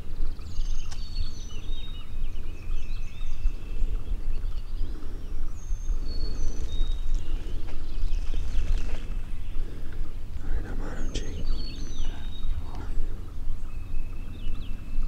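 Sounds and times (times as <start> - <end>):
songbirds singing: 0.0 - 15.0
steady low rumble: 0.0 - 15.0.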